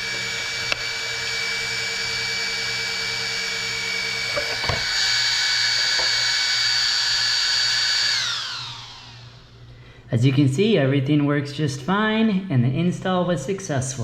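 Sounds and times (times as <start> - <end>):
small cooling fans whining: 0.0 - 14.0.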